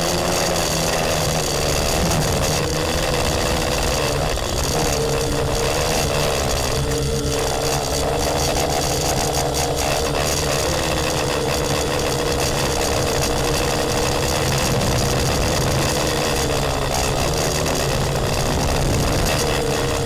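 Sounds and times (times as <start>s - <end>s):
airframe rattling: 0.0s - 20.0s
drone motors whining and buzzing: 0.0s - 20.0s.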